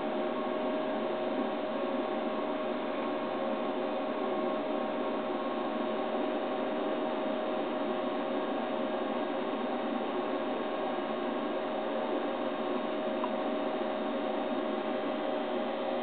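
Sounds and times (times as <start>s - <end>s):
faint humming tone: 0.0s - 16.0s.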